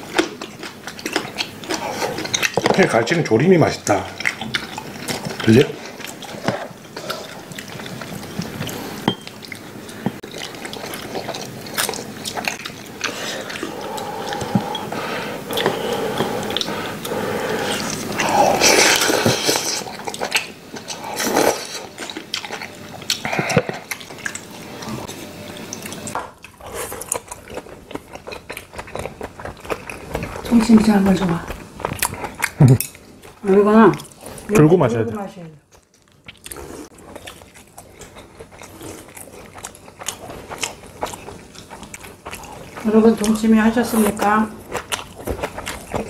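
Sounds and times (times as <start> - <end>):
wet chewing and slurping: 0.0 - 34.5, 35.7 - 46.0.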